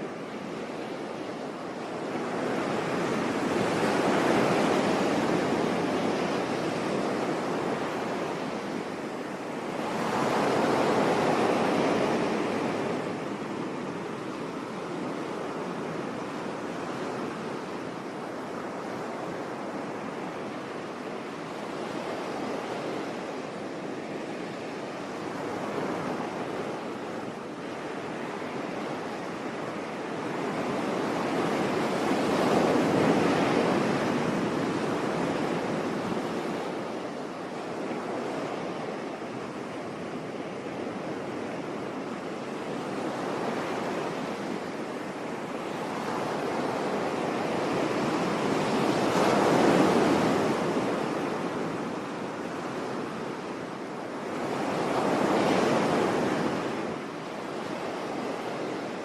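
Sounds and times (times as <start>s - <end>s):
sea waves breaking on beach: 0.0s - 59.0s
wind noise: 0.0s - 59.0s.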